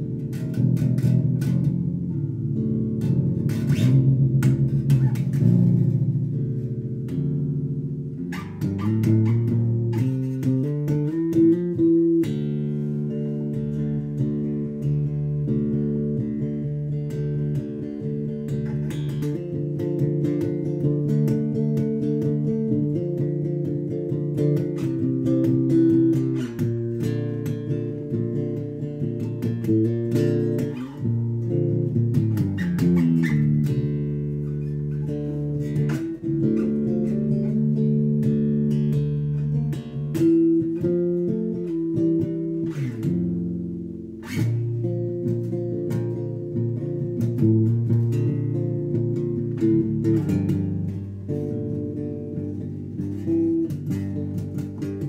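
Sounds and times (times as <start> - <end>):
electric bass guitar notes: 0.0 - 55.0.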